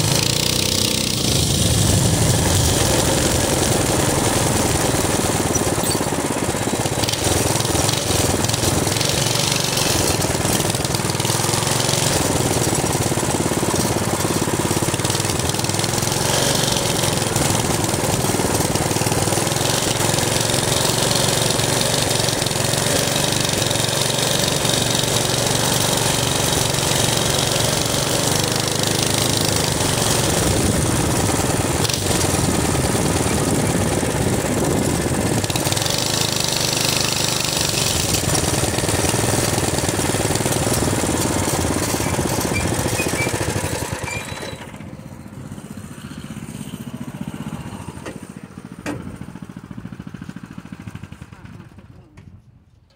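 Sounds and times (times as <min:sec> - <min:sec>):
small motorbike engine running: 0:00.0 - 0:52.4.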